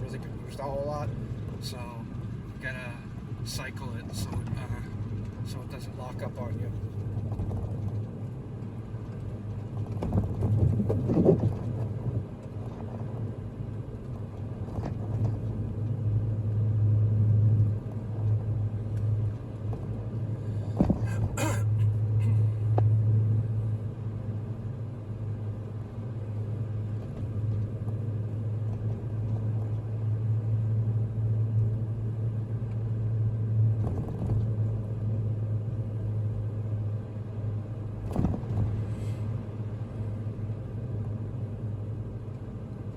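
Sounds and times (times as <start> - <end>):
engine and road rumble: 0.0 - 42.9.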